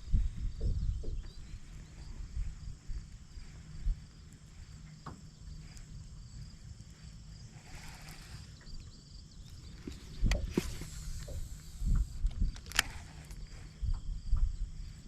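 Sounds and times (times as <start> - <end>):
high insect trill: 0.0 - 15.0
low uneven rumble: 0.0 - 15.0.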